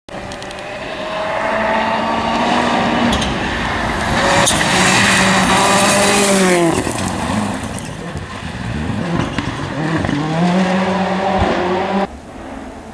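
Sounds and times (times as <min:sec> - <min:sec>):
rally car engine accelerating: 0:00.1 - 0:12.1.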